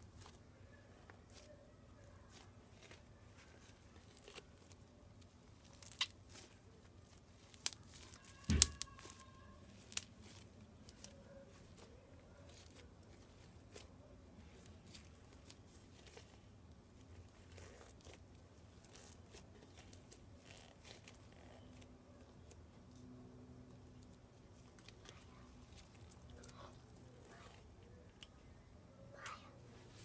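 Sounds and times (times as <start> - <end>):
crunchy slime crackling: 0.0 - 23.0, 23.7 - 28.6.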